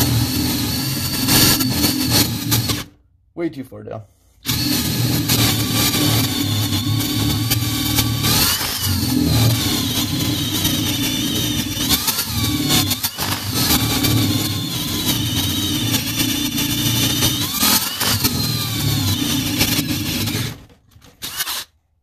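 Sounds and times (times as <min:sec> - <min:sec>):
cordless drill boring into wood: 0:00.0 - 0:02.9, 0:04.4 - 0:21.8.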